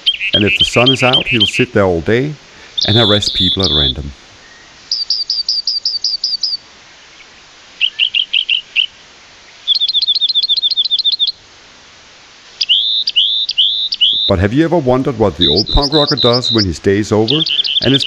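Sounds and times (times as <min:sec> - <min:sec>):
songbird trilling: 0:00.0 - 0:01.9, 0:02.6 - 0:11.4, 0:12.6 - 0:18.0.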